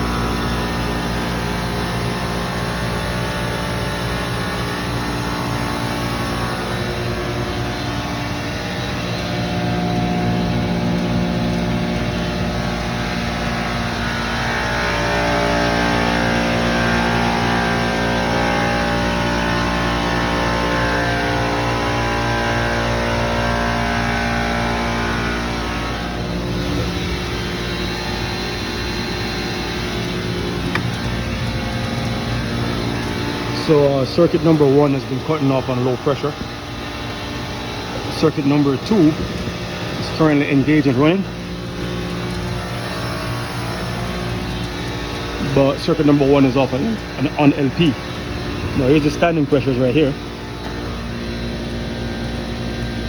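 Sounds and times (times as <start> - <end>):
chiller machine hum: 0.0 - 53.0.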